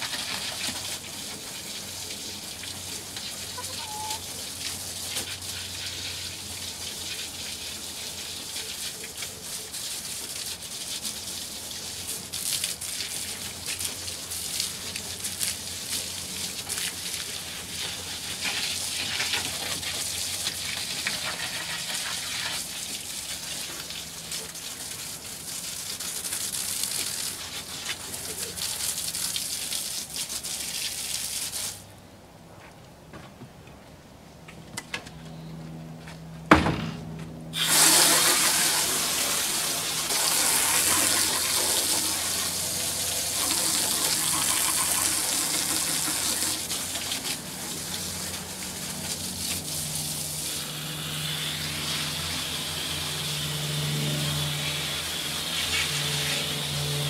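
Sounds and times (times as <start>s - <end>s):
garden hose spraying water: 0.0s - 32.0s, 37.5s - 57.0s.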